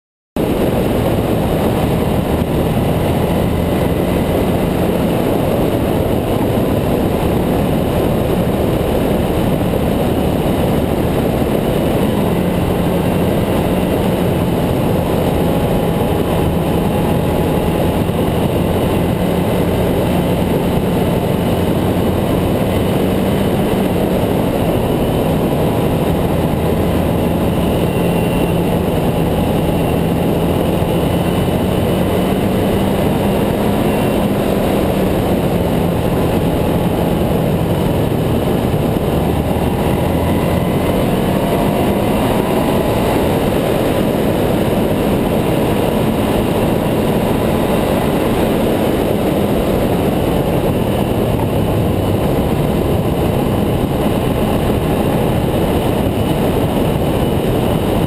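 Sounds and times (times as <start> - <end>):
motorcycle engine running: 0.4 - 58.0
wind and road noise: 0.4 - 58.0.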